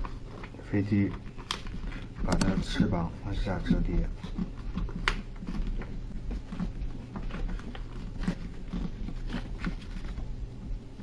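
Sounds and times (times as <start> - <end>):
paper being folded and creased: 0.0 - 10.2
low steady hum: 0.0 - 11.0.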